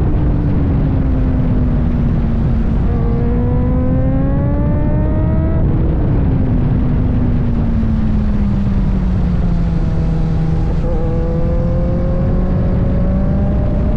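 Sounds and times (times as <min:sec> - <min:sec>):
motorcycle engine at high revs: 0:00.0 - 0:13.9
wind rumble on microphone: 0:00.0 - 0:13.9.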